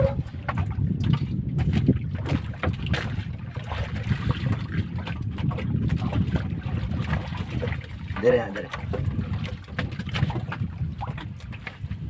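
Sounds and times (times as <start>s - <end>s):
water slapping boat hull: 0.0s - 12.0s
wind buffeting microphone: 0.0s - 12.0s.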